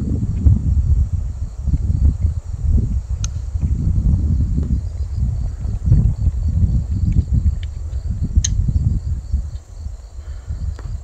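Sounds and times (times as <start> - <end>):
crickets chirping: 0.0 - 11.0
wind buffeting microphone: 0.0 - 11.0.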